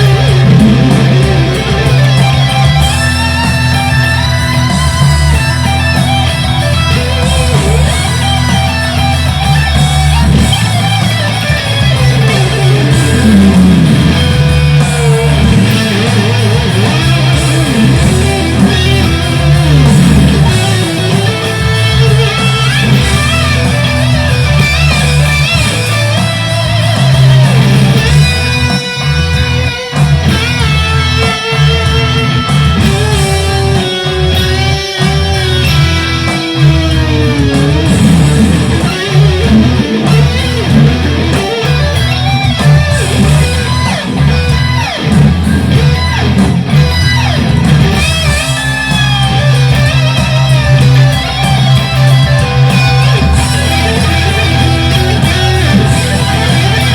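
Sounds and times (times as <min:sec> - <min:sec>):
electric guitar lead lines: 0:00.0 - 0:56.9
sustained low bass: 0:00.0 - 0:56.9.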